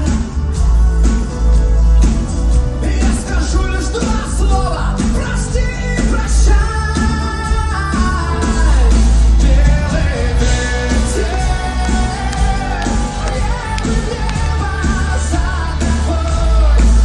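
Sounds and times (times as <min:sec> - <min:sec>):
heavy bass: 0:00.0 - 0:17.0
live rock song with singing: 0:00.0 - 0:17.0.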